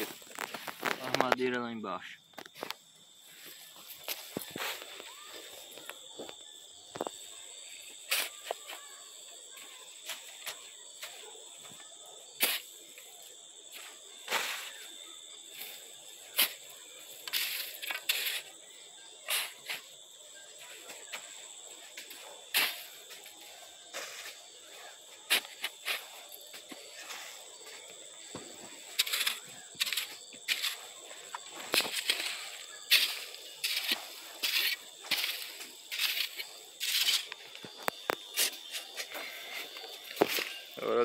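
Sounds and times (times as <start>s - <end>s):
shovel scraping and throwing earth: 0.0s - 1.3s, 2.4s - 5.9s, 6.9s - 9.0s, 12.3s - 20.0s, 20.6s - 40.8s
high-pitched insect drone: 2.4s - 41.0s.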